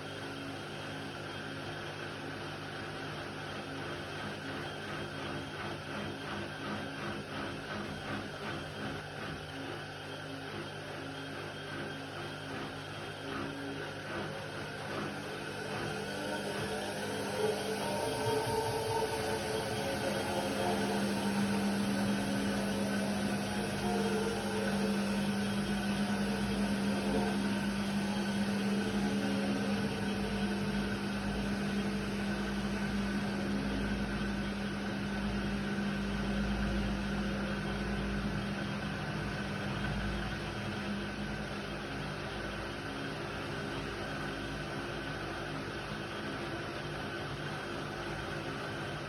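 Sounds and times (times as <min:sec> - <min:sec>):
washing machine motor hum: 0:00.0 - 0:49.0.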